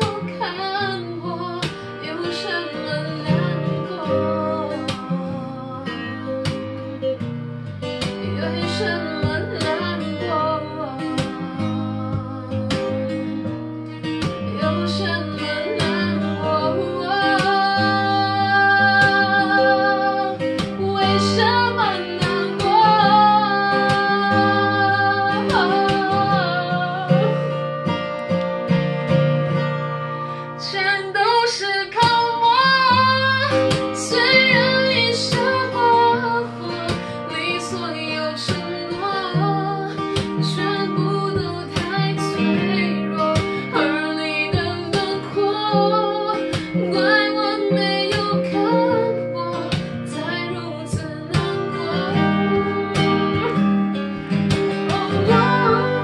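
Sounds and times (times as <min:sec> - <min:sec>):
acoustic guitar: 0:00.0 - 0:56.0
woman singing pop ballad: 0:00.0 - 0:56.0.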